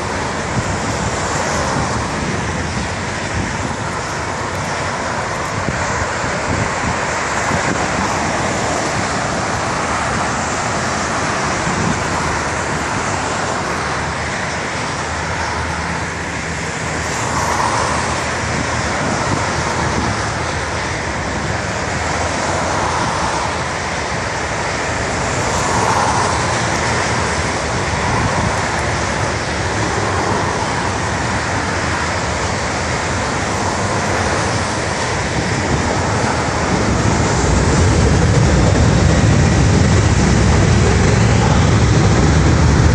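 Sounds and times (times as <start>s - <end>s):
highway traffic: 0.0s - 42.9s.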